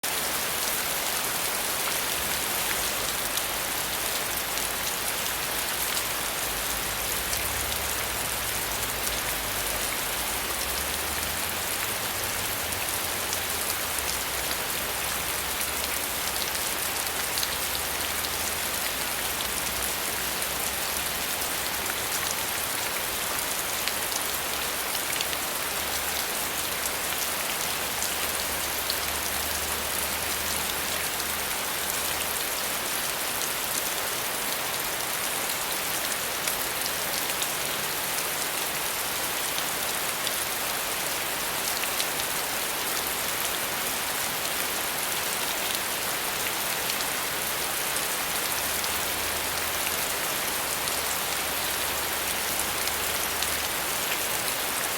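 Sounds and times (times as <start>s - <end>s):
steady rain pattering: 0.0s - 54.9s.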